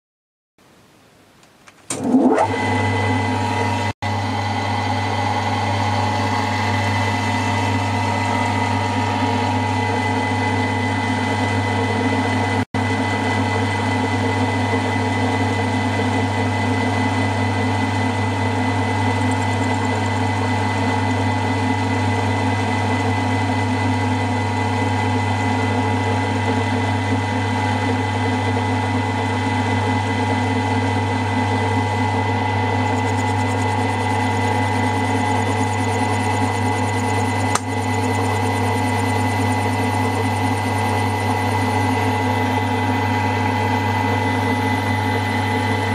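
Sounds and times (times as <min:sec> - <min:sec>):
milling machine humming and whining: 0:01.9 - 0:45.9.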